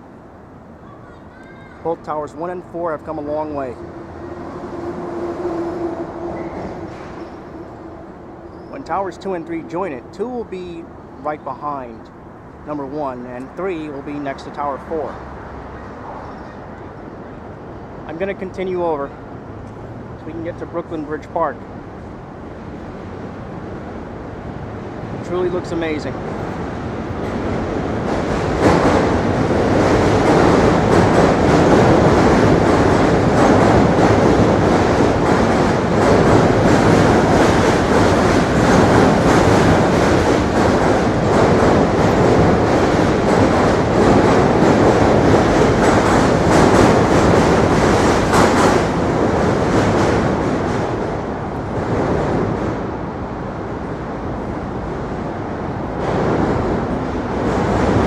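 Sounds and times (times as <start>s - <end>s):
subway train clattering past: 0.0s - 58.0s.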